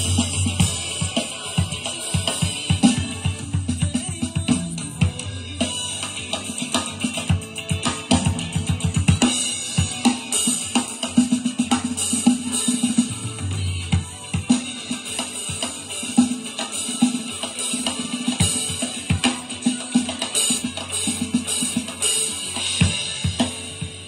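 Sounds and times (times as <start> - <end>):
electronic drum kit beat: 0.0 - 24.0.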